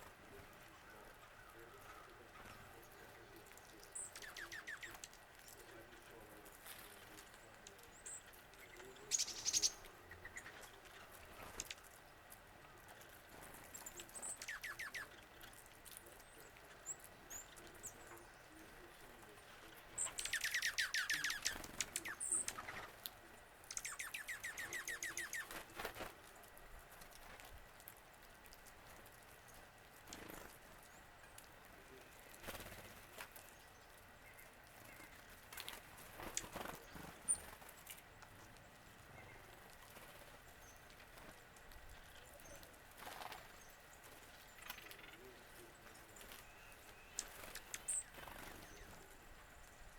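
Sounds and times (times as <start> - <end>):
songbird singing: 0.0 - 27.3, 28.2 - 49.9.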